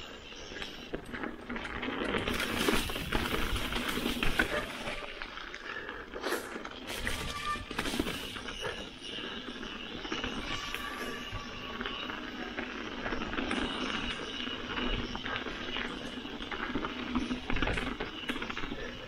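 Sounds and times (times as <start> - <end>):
bike knocking and rattling: 0.0 - 19.0
bike tyres crunching over dirt: 0.0 - 19.0.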